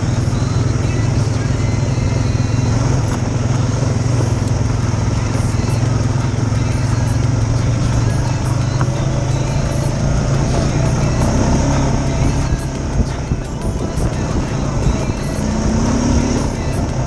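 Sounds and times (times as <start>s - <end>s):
quad bike engine running: 0.0s - 17.0s.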